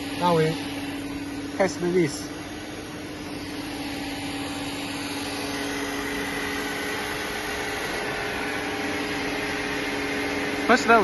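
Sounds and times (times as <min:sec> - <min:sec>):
cutting machine humming: 0:00.0 - 0:11.0
high machine whine: 0:00.0 - 0:11.0.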